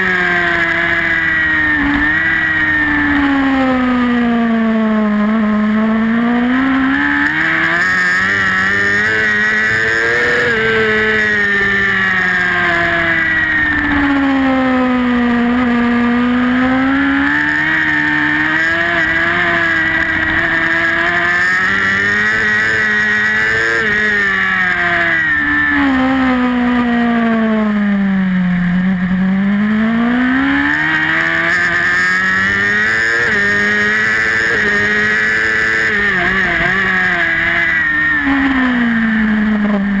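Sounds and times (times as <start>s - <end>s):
racing motorcycle engine revving: 0.0s - 40.0s.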